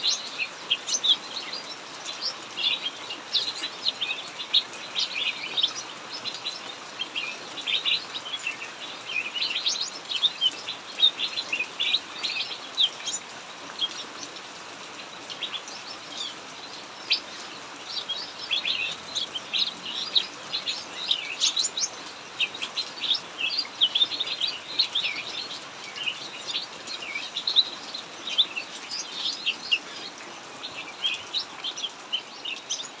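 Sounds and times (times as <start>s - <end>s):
birds chirping: 0.0s - 33.0s
heavy rain hissing: 0.0s - 33.0s.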